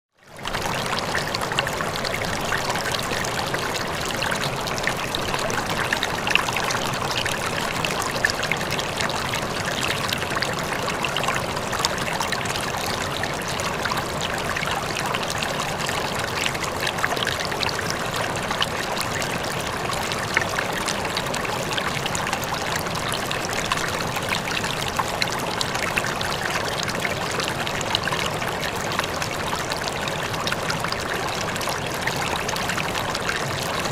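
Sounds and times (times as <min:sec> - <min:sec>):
stream flowing over rocks: 0:00.4 - 0:33.9.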